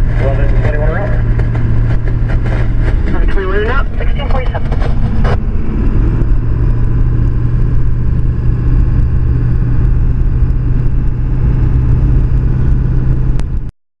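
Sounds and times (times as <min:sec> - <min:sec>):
vehicle engine and road drone: 0:00.0 - 0:13.7.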